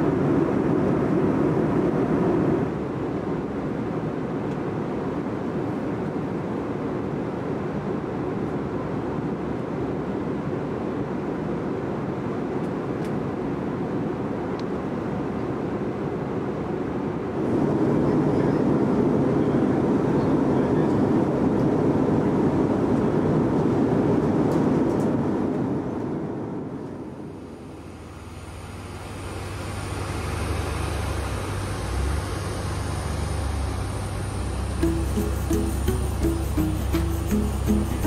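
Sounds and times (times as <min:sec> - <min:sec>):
airliner cabin noise: 0:00.0 - 0:38.0.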